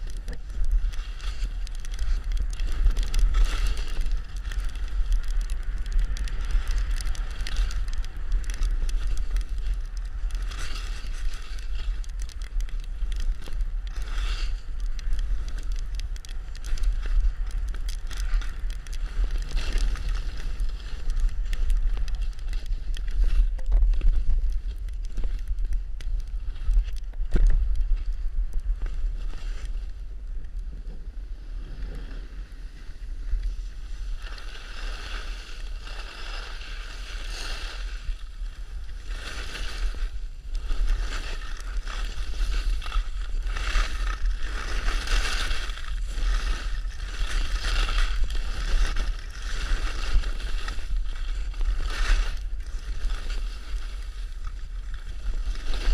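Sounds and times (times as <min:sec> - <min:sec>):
skis scraping over snow: 0:00.0 - 0:30.1, 0:30.7 - 0:55.9
wind rumbling on microphone: 0:00.0 - 0:55.9.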